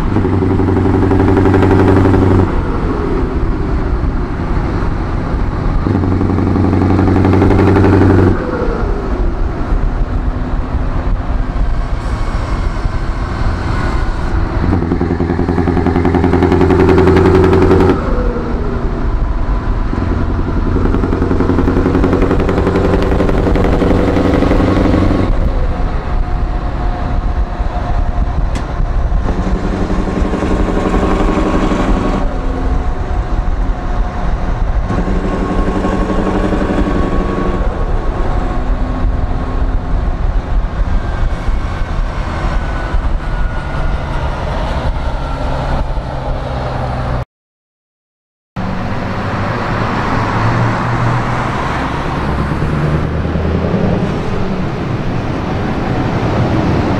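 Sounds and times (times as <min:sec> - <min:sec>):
truck engine revving: 0:00.0 - 0:47.2, 0:48.6 - 0:56.9.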